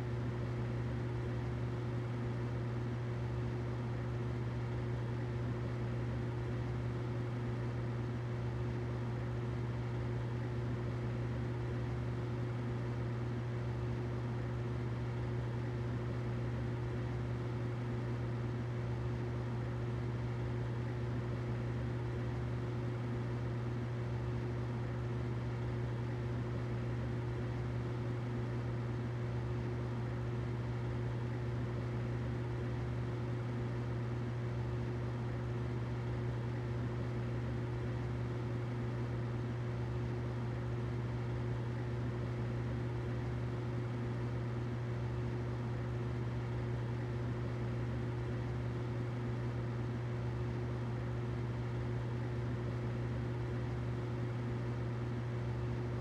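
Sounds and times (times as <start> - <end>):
humidifier humming and hissing: 0.0 - 56.0.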